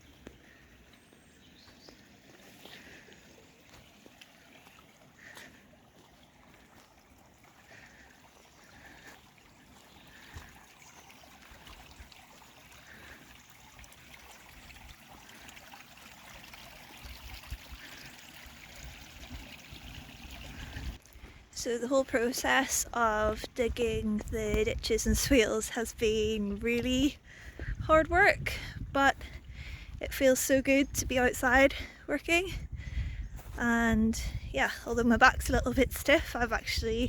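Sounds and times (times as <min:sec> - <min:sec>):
water trickling in a ditch: 0:00.0 - 0:37.0.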